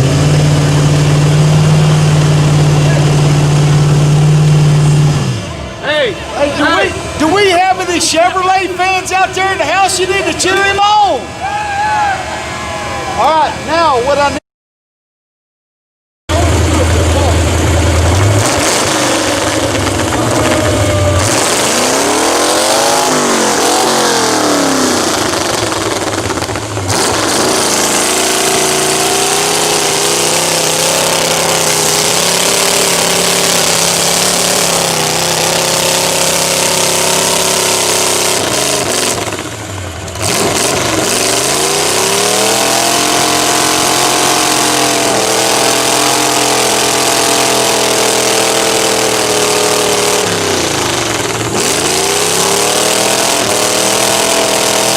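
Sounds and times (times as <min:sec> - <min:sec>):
truck engine revving hard: 0:00.0 - 0:11.4, 0:16.3 - 0:54.9.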